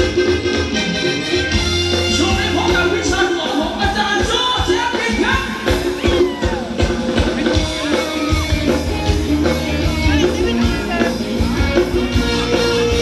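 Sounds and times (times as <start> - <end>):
steady drum beat: 0.0 - 13.0.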